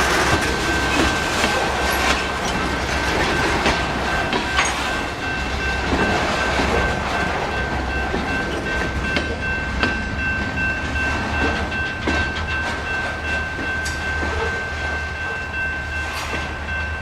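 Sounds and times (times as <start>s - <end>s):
low train rumble: 0.0s - 17.0s
wheels clicking over rail joints: 0.0s - 17.0s.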